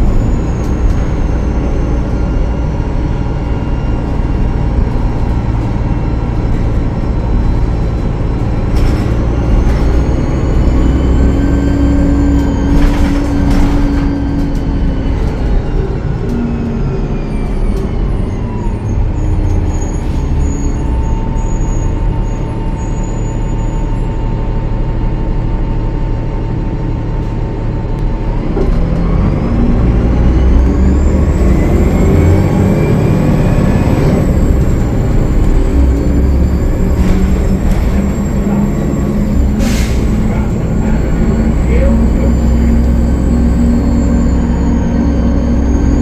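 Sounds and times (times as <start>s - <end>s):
bus diesel engine whine: 0.0s - 46.0s.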